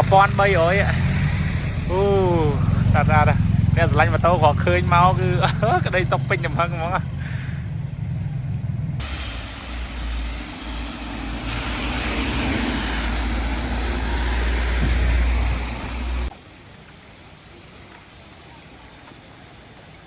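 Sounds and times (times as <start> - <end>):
motor vehicle rumbling: 0.0 - 16.4
road noise: 0.0 - 20.0.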